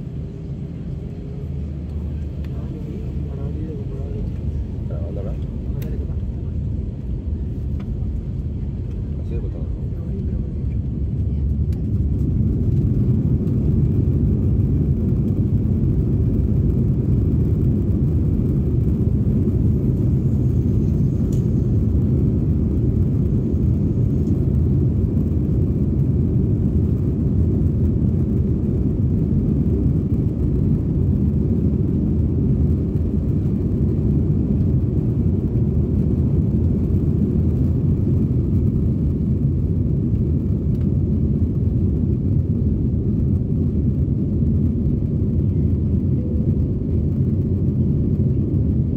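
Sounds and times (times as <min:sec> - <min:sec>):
jet engines at takeoff thrust: 0:00.0 - 0:48.9
wheels rumbling on runway: 0:00.0 - 0:48.9.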